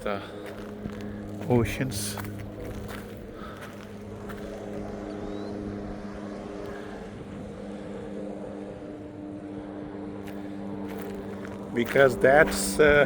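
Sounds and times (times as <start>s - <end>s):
boat engine droning: 0.0s - 13.0s
water and wind noise: 0.0s - 13.0s.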